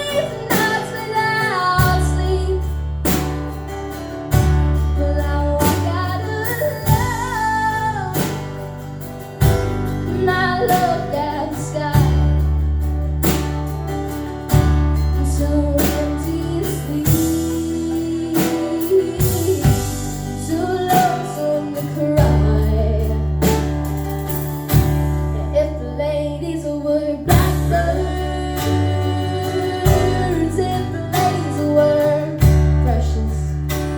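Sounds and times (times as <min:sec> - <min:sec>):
deep bass notes: 0:00.0 - 0:33.9
plucked guitar: 0:00.0 - 0:33.9.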